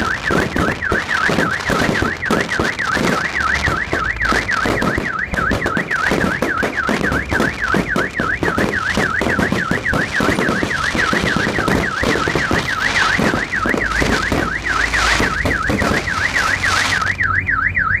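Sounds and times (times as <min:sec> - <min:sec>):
fireworks crackling and popping: 0:00.0 - 0:17.2
car alarm warbling: 0:00.0 - 0:18.0.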